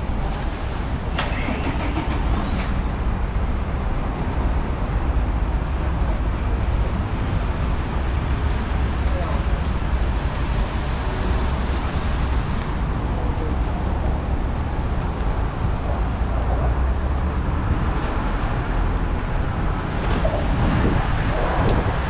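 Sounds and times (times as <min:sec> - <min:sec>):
traffic: 0:00.0 - 0:22.0
wind rumble on microphone: 0:02.3 - 0:22.0.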